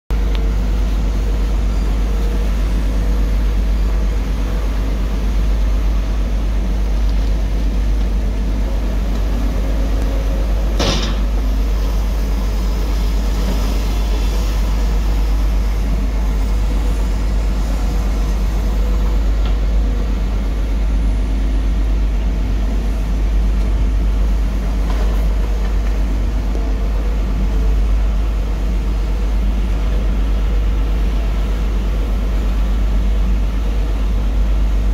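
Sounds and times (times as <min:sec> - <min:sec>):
excavator diesel engine rumbling: 0:00.1 - 0:34.9.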